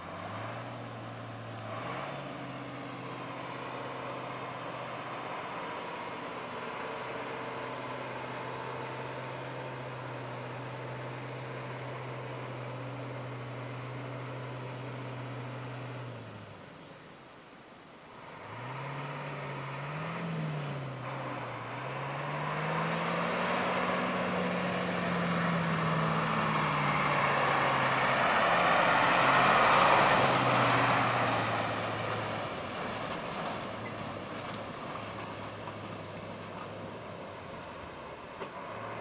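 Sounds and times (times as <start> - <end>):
truck diesel engine under load: 0.0 - 39.0.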